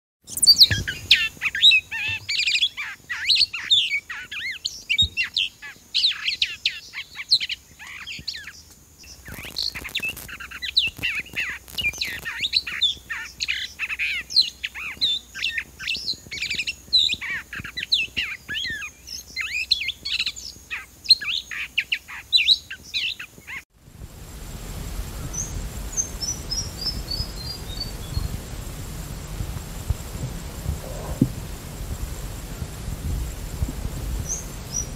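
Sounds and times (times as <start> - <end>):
recording hiss: 0.2 - 34.9
songbirds chirping: 0.2 - 34.9.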